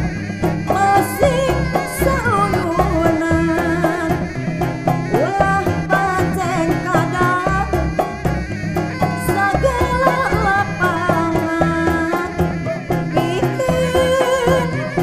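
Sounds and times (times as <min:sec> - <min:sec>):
frame drums beating: 0:00.0 - 0:15.0
woman singing: 0:00.7 - 0:04.3, 0:05.1 - 0:08.2, 0:08.9 - 0:15.0.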